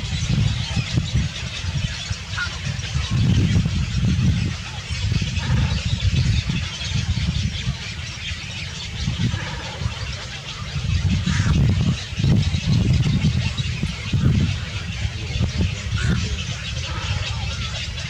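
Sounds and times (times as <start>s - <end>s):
birds calling and chattering: 0.0s - 18.0s.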